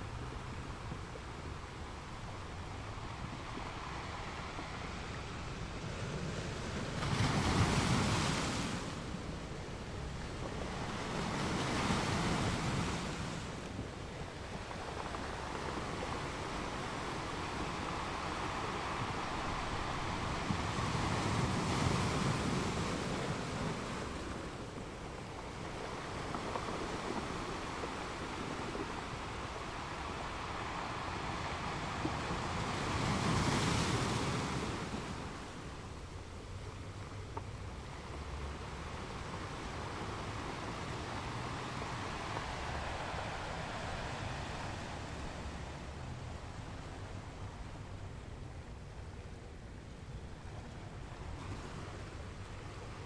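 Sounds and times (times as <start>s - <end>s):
surf washing over rocks: 0.0s - 53.0s.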